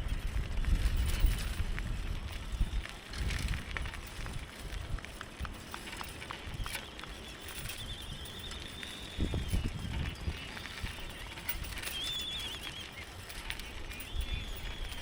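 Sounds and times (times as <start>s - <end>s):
bicycle rattling over ground: 0.0s - 15.0s
wind buffeting microphone: 0.0s - 15.0s.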